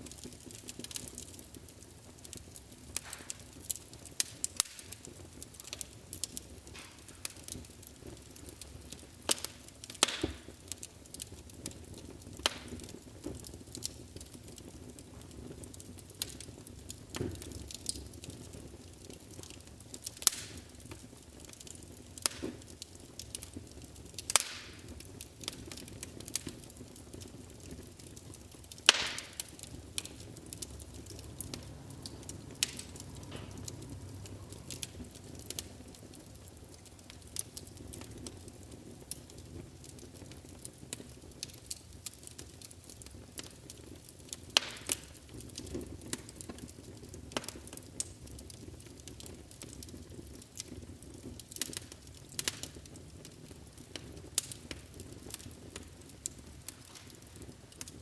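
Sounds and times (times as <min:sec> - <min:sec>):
fire flames rumbling: 0:00.0 - 0:58.0
wood fire crackling and popping: 0:00.0 - 0:58.0.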